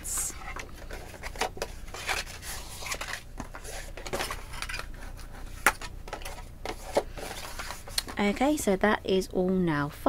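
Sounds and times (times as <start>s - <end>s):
card rustling and creasing: 0.0s - 8.5s.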